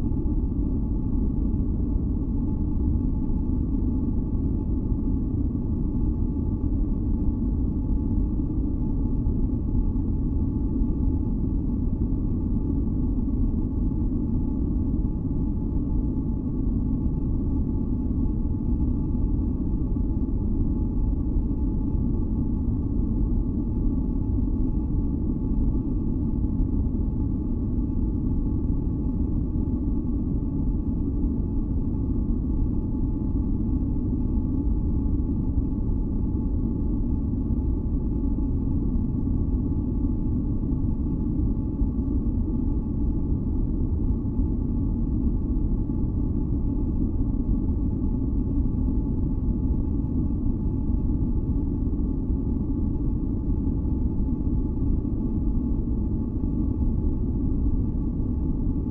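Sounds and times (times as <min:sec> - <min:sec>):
faint steady tonal hum: 0:00.0 - 0:58.9.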